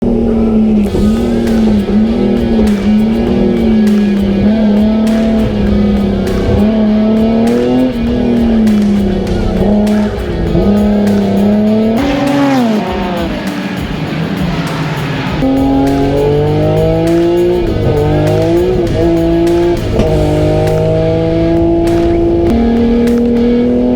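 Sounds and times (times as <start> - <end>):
race car engine at high revs: 0.0 - 23.9
music: 0.1 - 23.9.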